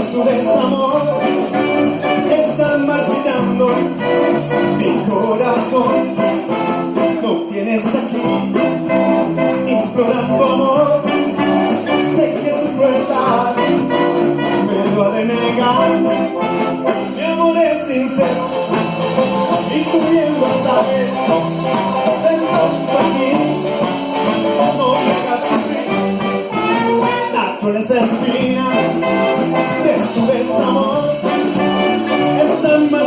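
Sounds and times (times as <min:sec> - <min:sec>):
live band playing pop ballad: 0:00.0 - 0:33.0.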